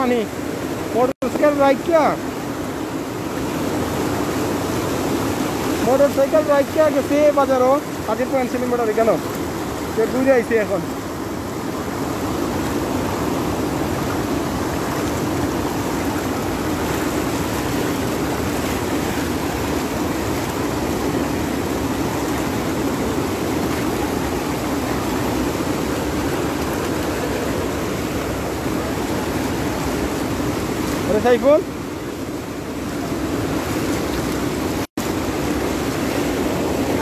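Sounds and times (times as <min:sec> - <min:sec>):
water rushing: 0:00.0 - 0:37.0.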